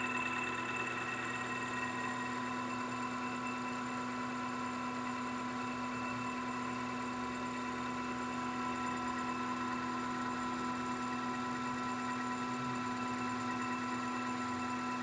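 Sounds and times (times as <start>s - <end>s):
metal lathe whining: 0.0s - 15.0s.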